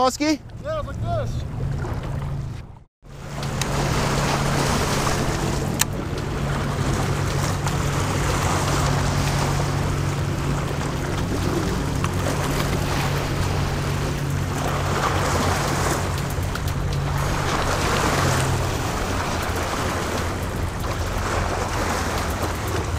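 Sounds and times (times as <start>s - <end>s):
low hum: 0.4s - 22.9s
waves washing against rocks: 3.1s - 22.9s.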